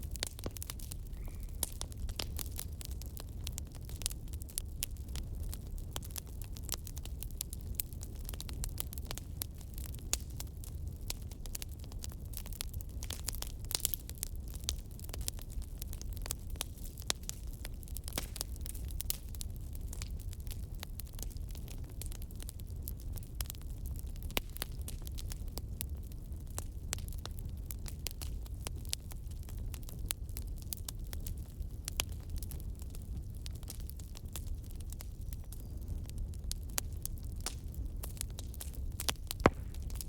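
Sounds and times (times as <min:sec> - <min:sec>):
fire crackling and popping: 0:00.0 - 0:40.0
fire rumbling: 0:00.0 - 0:40.0.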